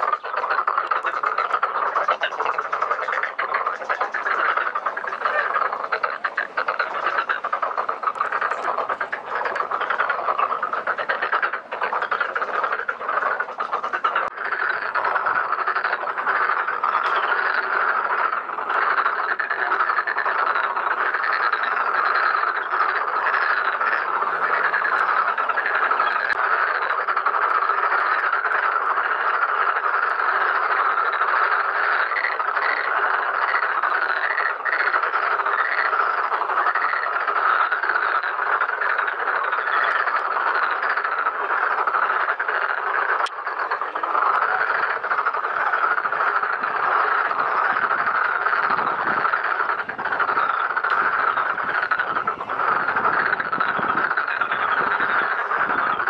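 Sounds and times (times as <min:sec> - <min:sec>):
frogs croaking chorus: 0:00.0 - 0:56.0.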